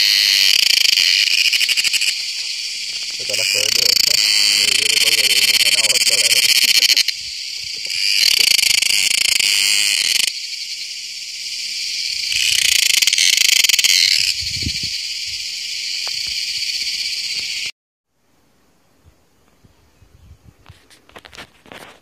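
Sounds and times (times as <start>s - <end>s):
high-pitched insect chorus: 0.0s - 17.7s.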